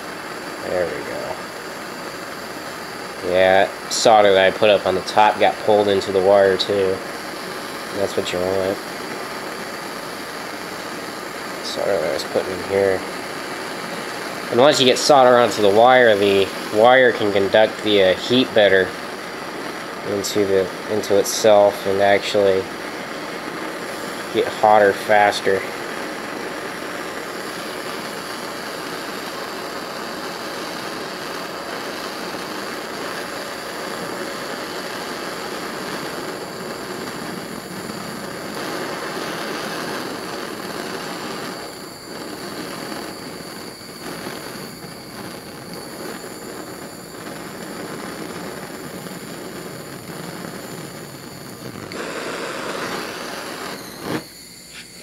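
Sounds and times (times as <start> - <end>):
gas torch flame rushing: 0.0 - 55.0.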